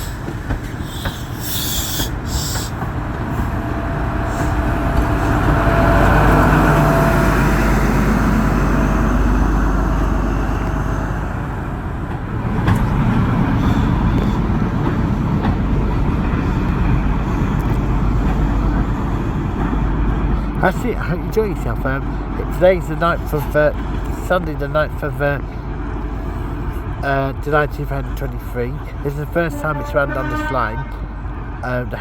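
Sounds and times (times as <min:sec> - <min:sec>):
diesel locomotive drone: 0:00.0 - 0:32.0.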